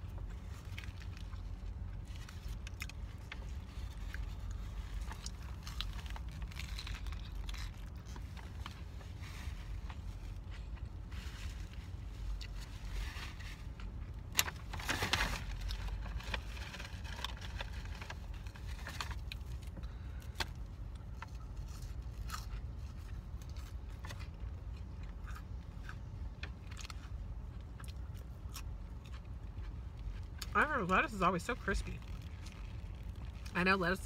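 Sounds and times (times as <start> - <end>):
chewing and crunching lettuce: 0.0 - 34.0
steady low rumble: 0.0 - 34.0.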